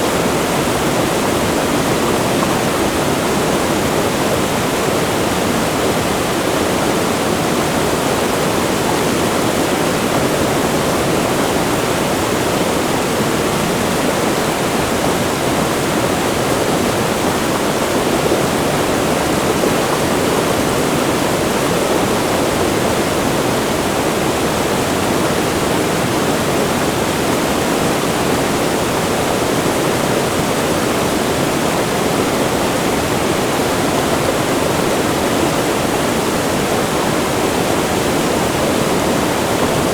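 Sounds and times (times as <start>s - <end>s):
river rushing by a waterfall: 0.0s - 39.9s.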